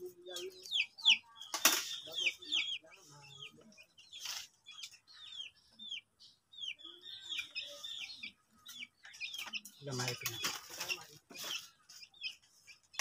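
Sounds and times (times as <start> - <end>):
birds chirping high: 0.0 - 13.0.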